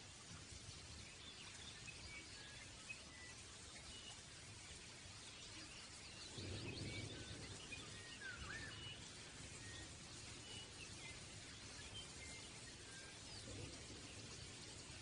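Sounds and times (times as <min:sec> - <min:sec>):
steady low hiss: 0:00.0 - 0:15.0
faint small birds chirping: 0:00.2 - 0:15.0.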